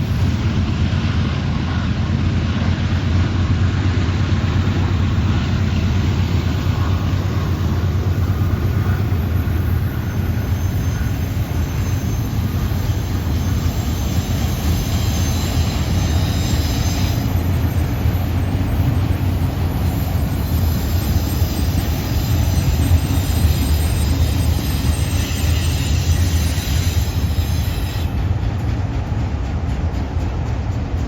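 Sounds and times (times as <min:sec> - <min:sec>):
diesel locomotive rumbling: 0:00.0 - 0:31.0.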